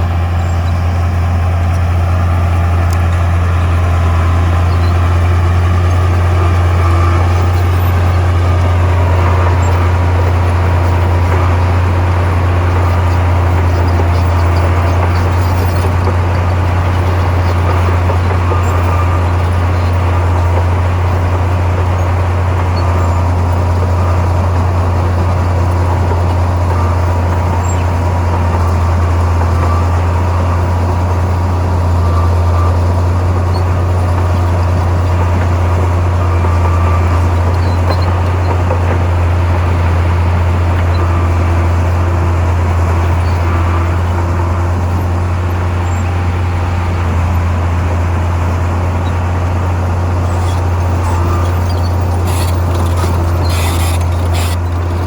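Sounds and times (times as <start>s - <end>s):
diesel machinery engine droning: 0.0s - 55.0s.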